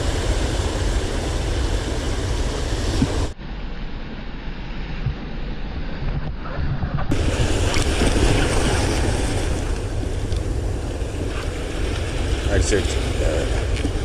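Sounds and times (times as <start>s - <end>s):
sea surf washing: 0.0s - 5.0s, 7.1s - 14.0s
wind rumbling on microphone: 0.0s - 14.0s.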